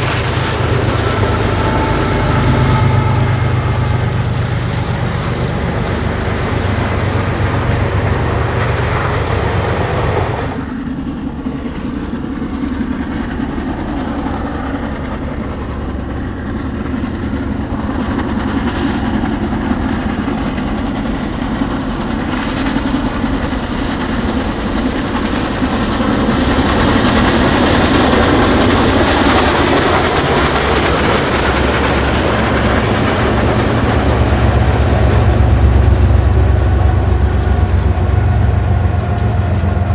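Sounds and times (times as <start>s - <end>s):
steam locomotive train rolling by: 0.0s - 39.9s.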